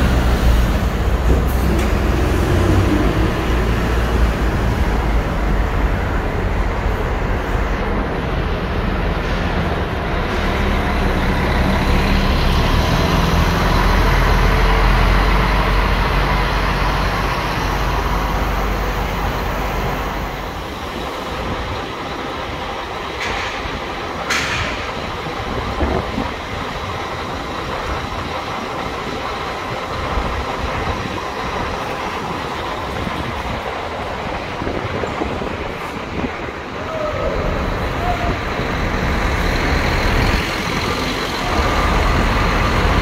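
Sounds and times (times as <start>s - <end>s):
diesel bus engine rumbling: 0.0s - 43.0s
traffic noise: 0.0s - 43.0s.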